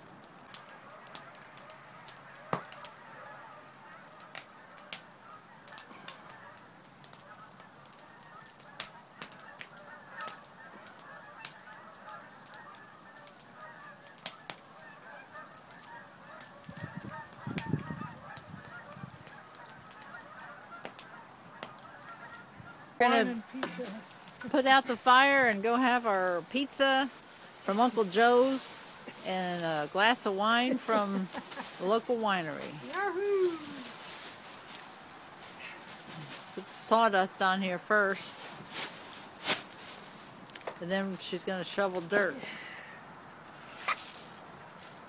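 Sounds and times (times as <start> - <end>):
wood fire popping and crackling: 0.0 - 45.0
geese honking: 0.5 - 33.0, 33.6 - 38.4.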